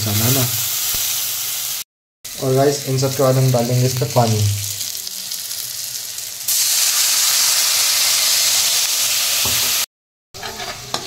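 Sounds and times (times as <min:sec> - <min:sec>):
hissing sizzle of water in hot pan: 0:00.0 - 0:11.0.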